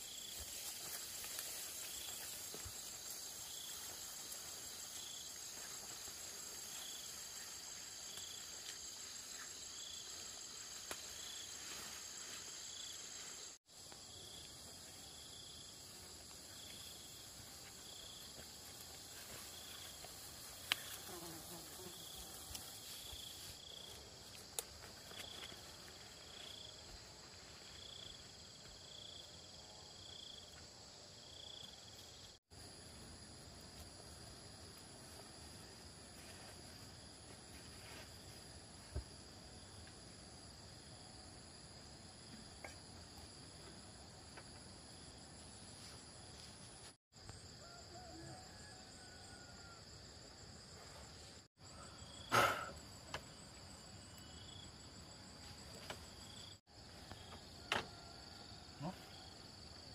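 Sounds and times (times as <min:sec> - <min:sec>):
insects chirping and trilling: 0:00.0 - 0:59.9.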